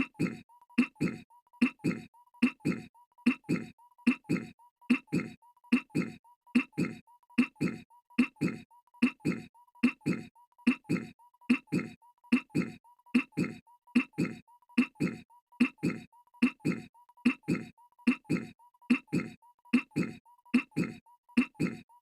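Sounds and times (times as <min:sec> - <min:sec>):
cartoon voice clearing throat: 0:00.0 - 0:22.0.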